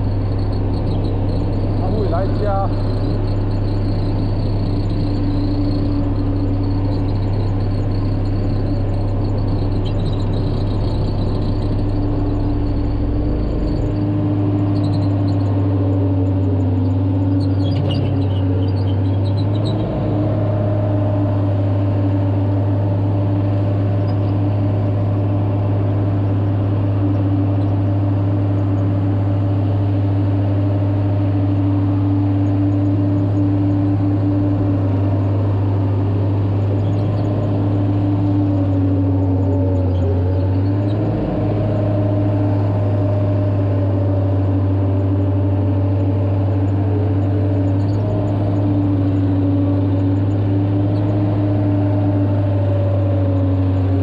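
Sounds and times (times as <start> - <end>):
road roller diesel engine running: 0.0 - 54.0.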